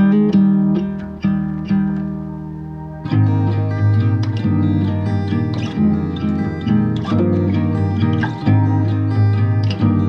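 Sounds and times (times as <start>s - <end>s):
background music chords: 0.0s - 10.0s.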